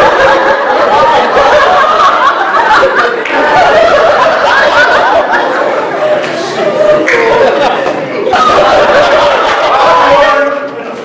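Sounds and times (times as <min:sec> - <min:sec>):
group of people laughing: 0:00.0 - 0:10.6
people chattering: 0:00.0 - 0:11.0.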